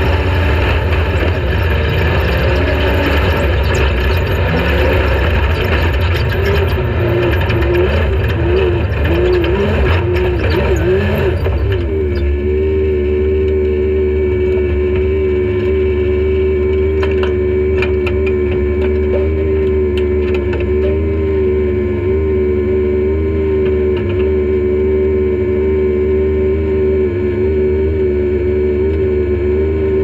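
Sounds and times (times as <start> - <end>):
race vehicle engine running: 0.0 - 30.0.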